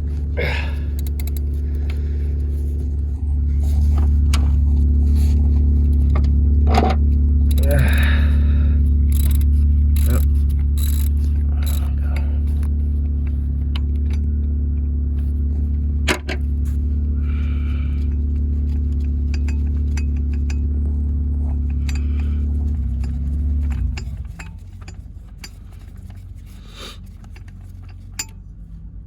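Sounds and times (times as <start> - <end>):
motor humming: 0.0 - 28.3.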